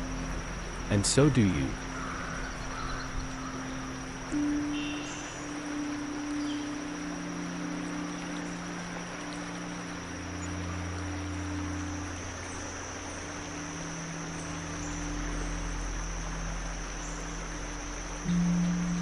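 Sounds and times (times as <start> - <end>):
low ambient drone: 0.0 - 19.0
stream flowing: 0.0 - 19.0
thin high tone: 0.0 - 19.0.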